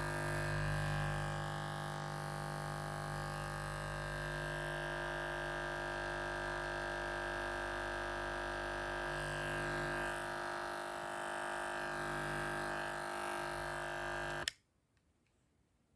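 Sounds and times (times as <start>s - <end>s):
electric shaver buzzing: 0.0s - 14.5s.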